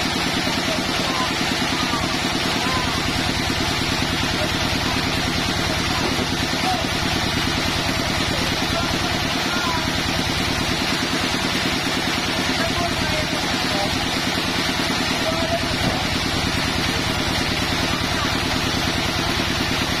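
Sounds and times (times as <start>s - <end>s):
sawmill engine idling: 0.0s - 20.0s.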